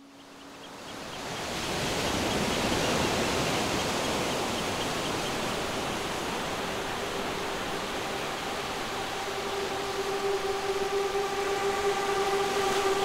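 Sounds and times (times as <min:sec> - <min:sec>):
steady rushing noise: 0:00.8 - 0:13.0.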